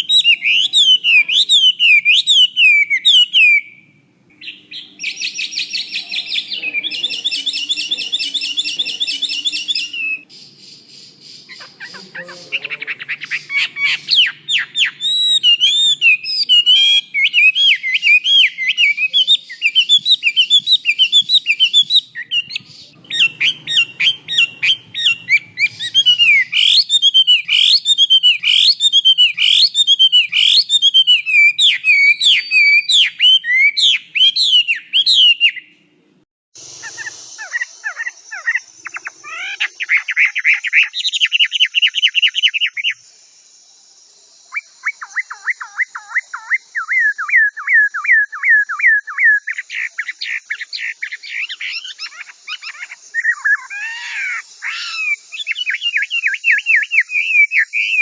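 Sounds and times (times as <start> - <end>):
bird singing whistled notes: 0.0 - 35.7, 36.8 - 43.0, 44.5 - 58.0.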